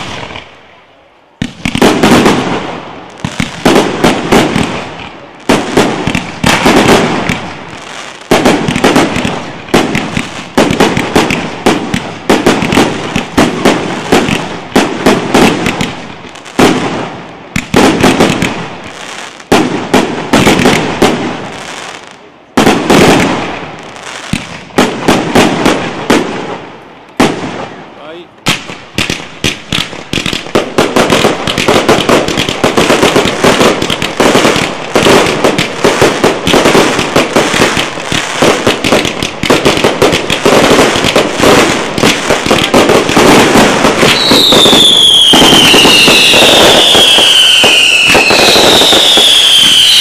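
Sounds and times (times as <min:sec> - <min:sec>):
fireworks bangs: 0:00.0 - 0:50.0
fireworks crackling: 0:00.0 - 0:50.0.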